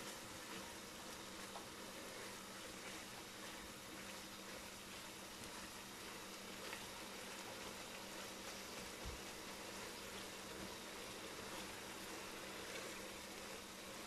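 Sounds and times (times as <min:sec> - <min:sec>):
faint steady hum: 0:00.0 - 0:14.0
food sizzling in a wok: 0:00.0 - 0:14.0.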